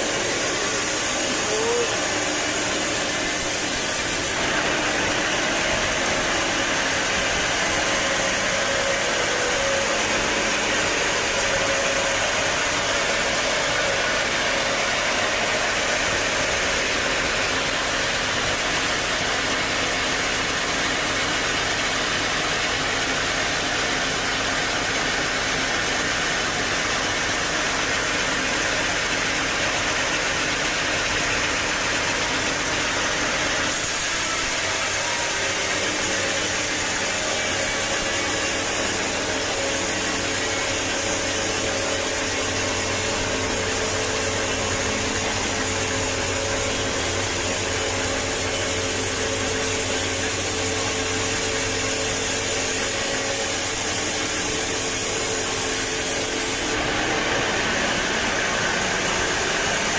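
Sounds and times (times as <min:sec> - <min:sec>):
sawmill machinery running: 0:00.0 - 0:59.9
steady motor hum: 0:00.0 - 0:59.9.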